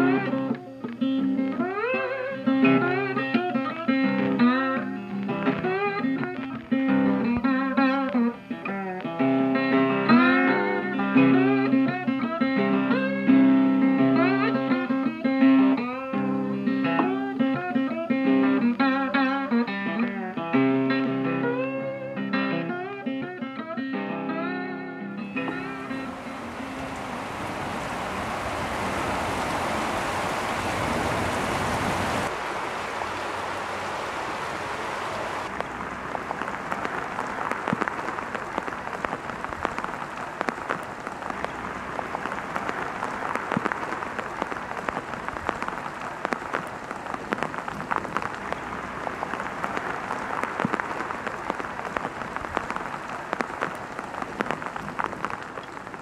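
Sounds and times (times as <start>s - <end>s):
heavy rain on road: 0.0s - 15.0s, 25.4s - 56.0s.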